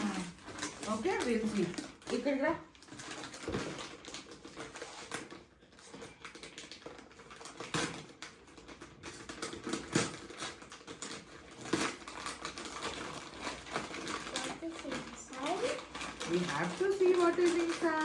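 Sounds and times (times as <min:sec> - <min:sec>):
wrapping paper tearing and crinkling: 0:00.0 - 0:18.0.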